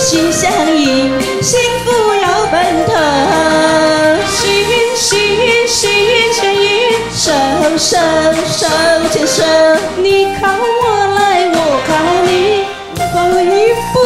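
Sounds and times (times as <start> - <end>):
karaoke backing track with beat: 0.0 - 14.0
woman singing: 0.0 - 14.0.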